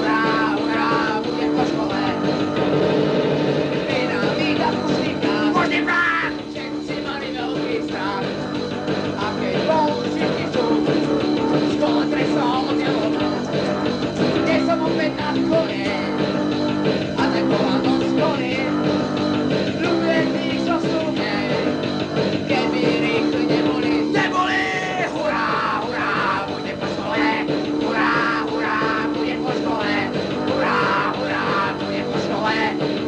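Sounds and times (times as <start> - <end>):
punk rock band playing: 0.0 - 33.0.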